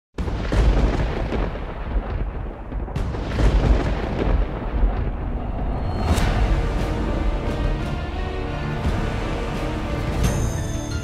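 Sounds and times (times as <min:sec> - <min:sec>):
deep rumbling with heavy booms: 0:00.2 - 0:09.9.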